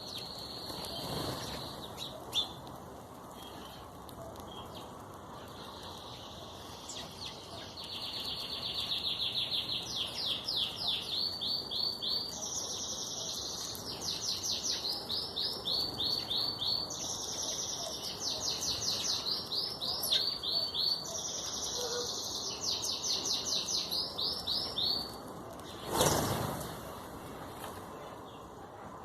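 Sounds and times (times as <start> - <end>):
songbird singing: 0.0 - 26.5.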